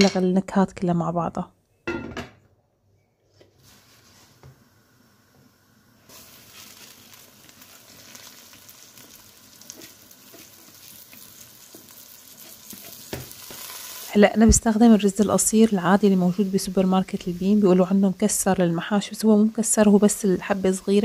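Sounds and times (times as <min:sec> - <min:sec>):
noodles sizzling in hot oil: 0:03.6 - 0:21.0.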